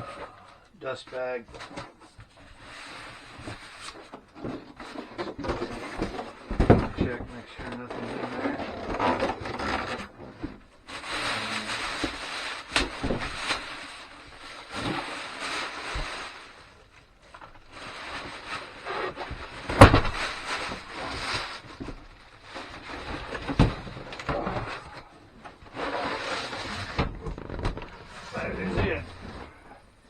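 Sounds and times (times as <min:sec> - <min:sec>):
cardboard box rustling and scraping: 0:02.8 - 0:16.4, 0:17.6 - 0:29.7.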